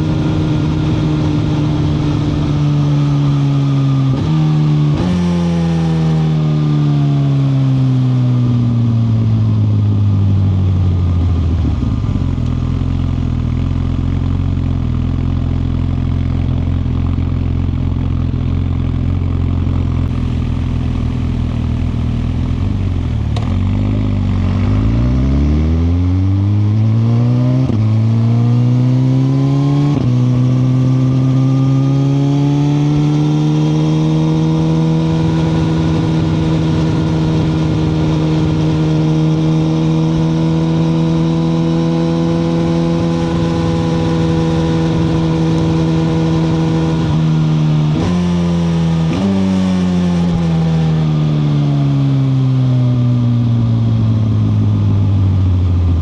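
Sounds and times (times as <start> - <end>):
motorcycle engine shifting gears: 10.7 - 56.0.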